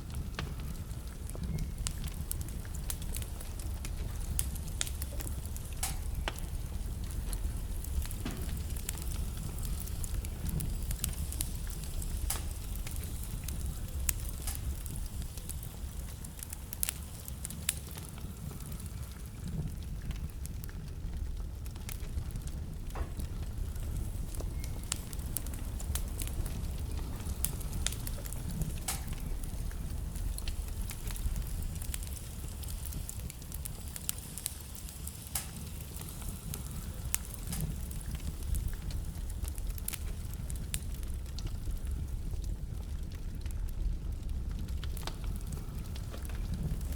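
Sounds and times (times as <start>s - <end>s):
low fire rumble: 0.0s - 46.9s
wood fire crackling and popping: 0.0s - 46.9s.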